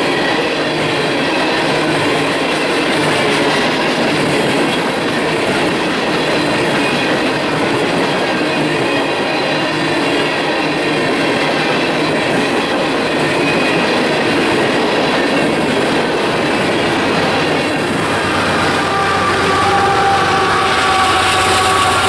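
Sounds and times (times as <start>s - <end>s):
train cars rumbling and clattering: 0.0s - 22.0s.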